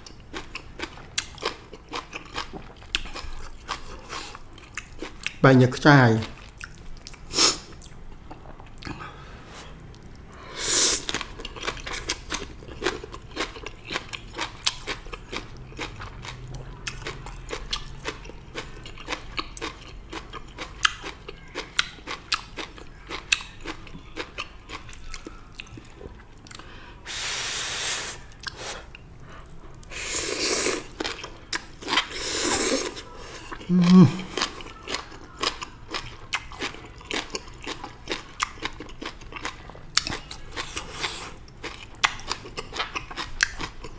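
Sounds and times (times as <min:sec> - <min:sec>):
chewing and crunching: 0:00.0 - 0:05.4, 0:06.2 - 0:09.2, 0:11.0 - 0:27.0, 0:30.6 - 0:43.9.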